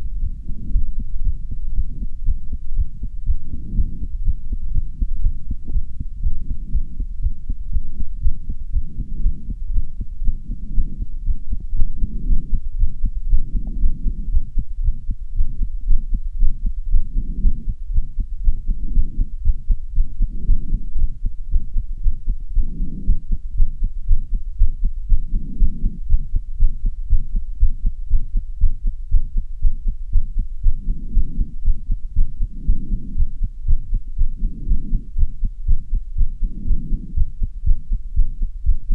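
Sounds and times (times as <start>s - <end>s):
heartbeat thumping: 0.0s - 38.9s.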